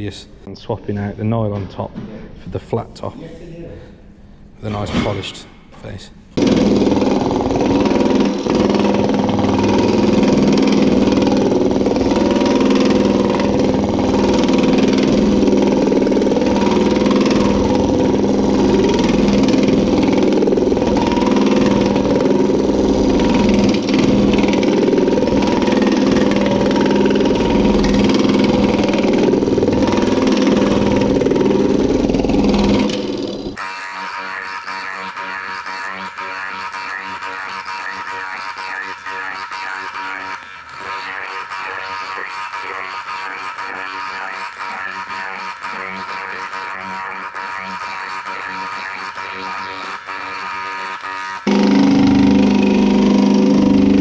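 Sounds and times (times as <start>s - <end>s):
power hammer planishing sheet metal: 6.4s - 54.0s.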